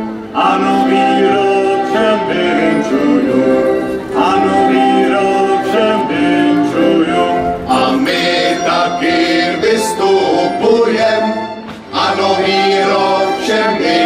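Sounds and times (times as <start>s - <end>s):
folk band with fiddles: 0.0s - 14.0s
men singing together: 0.3s - 14.0s.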